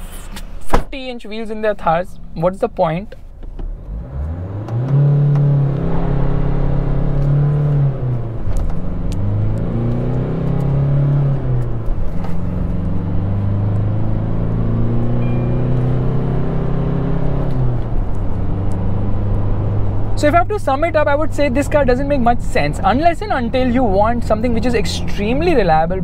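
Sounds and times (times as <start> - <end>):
diesel engine from inside cabin: 0.0 - 26.0
road noise: 0.0 - 26.0.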